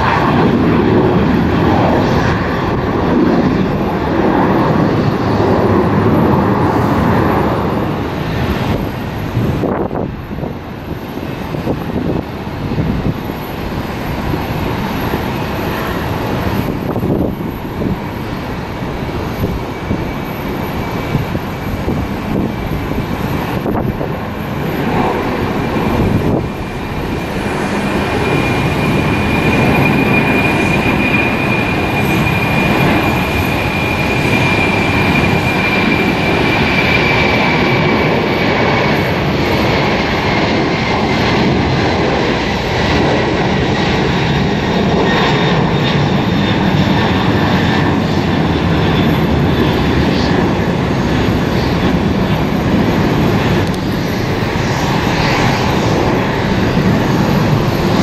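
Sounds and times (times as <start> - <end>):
high engine whine: 0.0 - 58.0
jet engines roaring: 0.0 - 58.0.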